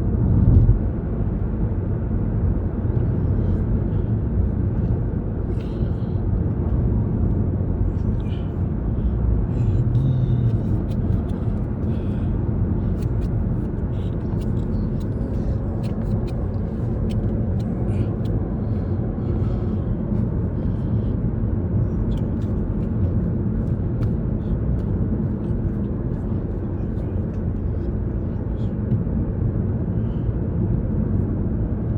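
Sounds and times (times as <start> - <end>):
car engine and road rumble: 0.0 - 31.9.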